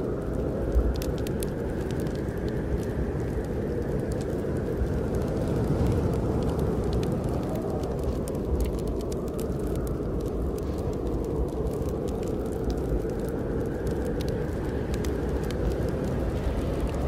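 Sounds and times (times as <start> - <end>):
fireplace fire crackling: 0.0 - 17.0
snowstorm wind rushing: 0.0 - 17.0.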